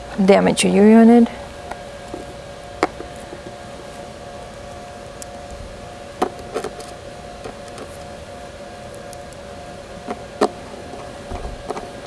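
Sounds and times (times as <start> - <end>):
steady high hum: 0.0 - 12.0.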